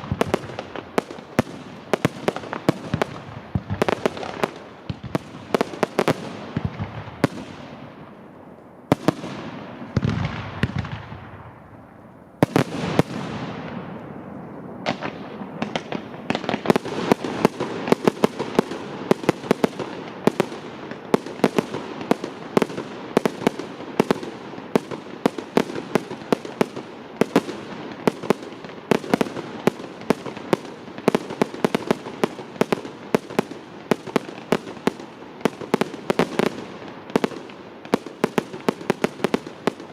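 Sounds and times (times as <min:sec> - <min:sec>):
rapid firework barrage: 0:00.0 - 0:08.1, 0:12.4 - 0:14.0, 0:14.8 - 0:39.9
fireworks bursting with bangs: 0:00.0 - 0:39.9.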